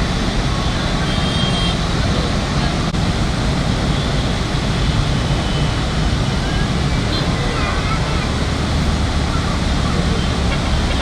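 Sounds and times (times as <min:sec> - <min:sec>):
road traffic passing: 0:00.0 - 0:11.0
floodwater rushing through gates: 0:01.7 - 0:11.0.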